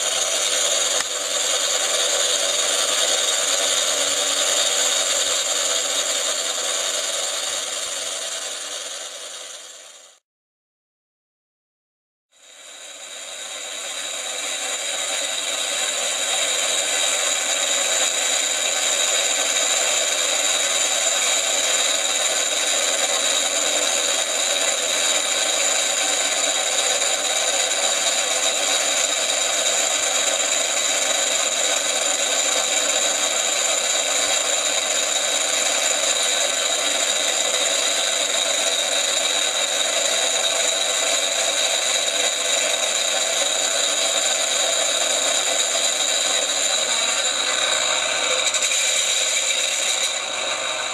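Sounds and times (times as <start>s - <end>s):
simulated engine sound: 0.0s - 10.2s, 12.6s - 50.9s
small electric motors whining: 0.0s - 10.2s, 12.4s - 50.9s.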